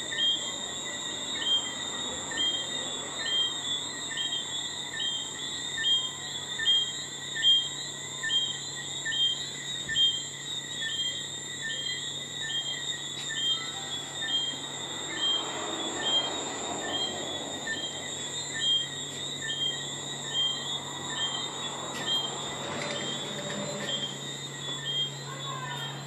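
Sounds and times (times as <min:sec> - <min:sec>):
insects trilling: 0:00.0 - 0:26.0
short insect chirp: 0:00.0 - 0:26.0.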